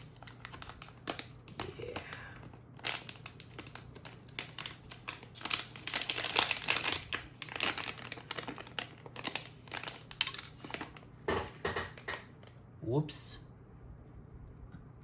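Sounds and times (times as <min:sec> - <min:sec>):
plastic packaging crinkling: 0:00.0 - 0:12.5
faint steady hum: 0:00.0 - 0:15.0.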